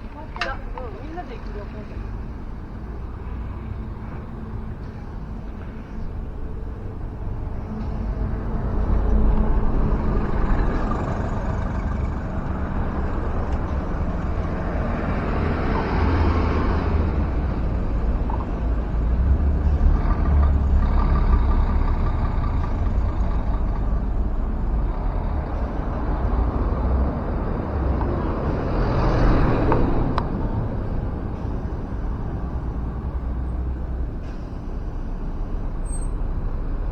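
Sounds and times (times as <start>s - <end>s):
road traffic passing: 0.0s - 36.9s.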